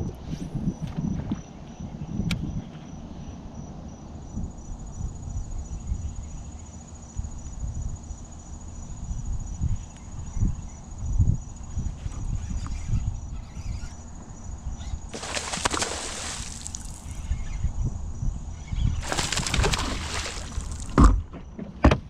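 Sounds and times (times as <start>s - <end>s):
insects chirping in a fast trill: 0.3s - 21.0s.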